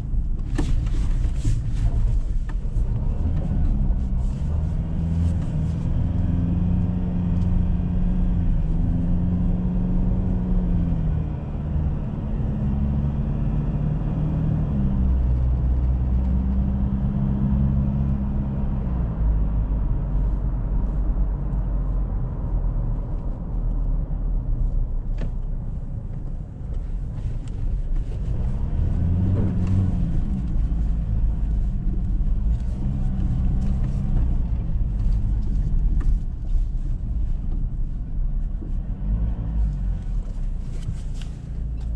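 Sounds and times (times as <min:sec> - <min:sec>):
tyre and road rumble: 0:00.0 - 0:41.9.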